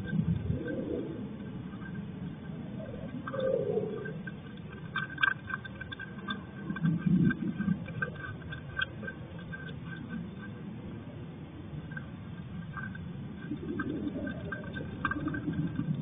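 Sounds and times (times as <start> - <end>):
small ticks and clicks: 0.0 - 16.0.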